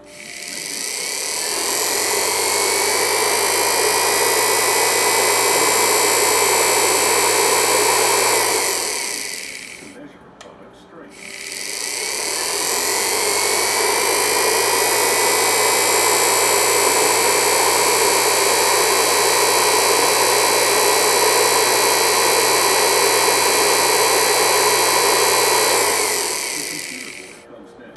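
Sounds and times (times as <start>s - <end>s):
electric motor whining: 0.0s - 10.0s, 11.1s - 27.4s.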